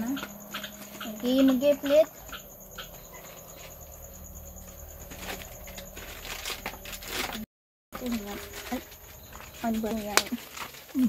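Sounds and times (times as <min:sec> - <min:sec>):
banana leaves rustling: 0:00.0 - 0:11.0
high insect trill: 0:00.0 - 0:11.0.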